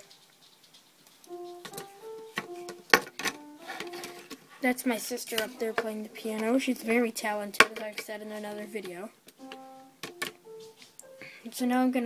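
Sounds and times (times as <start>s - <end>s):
faint piano: 0.0s - 12.0s.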